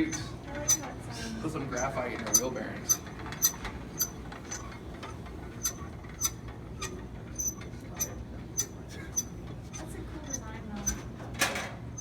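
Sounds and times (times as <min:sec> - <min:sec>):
wheel bearings squeaking: 0:00.0 - 0:01.0, 0:01.7 - 0:11.1.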